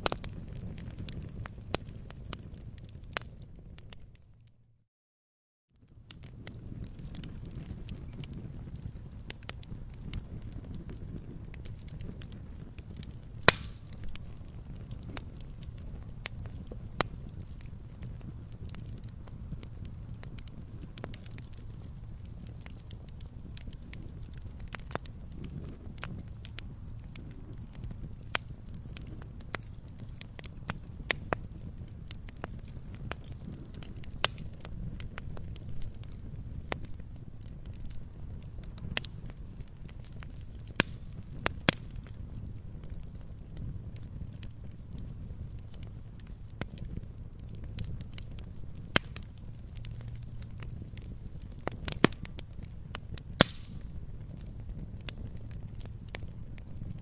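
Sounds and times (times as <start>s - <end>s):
campfire crackling and popping: 0.0s - 4.6s, 5.8s - 57.0s
low rumble of burning fire: 0.0s - 4.8s, 5.7s - 57.0s.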